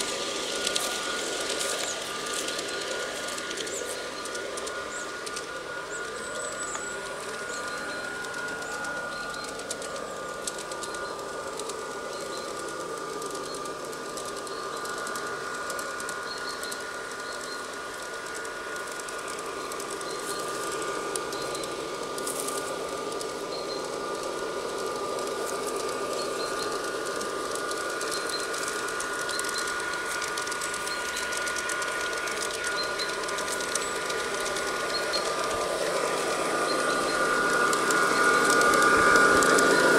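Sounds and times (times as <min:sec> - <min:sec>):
model train motor whine: 0:00.0 - 0:39.9
wheels rattling on rails: 0:00.0 - 0:39.9.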